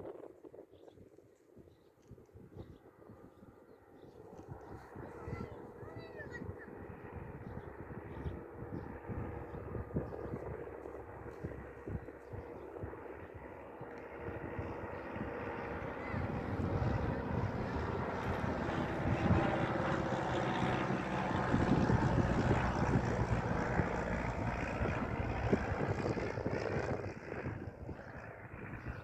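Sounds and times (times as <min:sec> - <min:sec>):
propeller aircraft engine: 0:00.0 - 0:29.0.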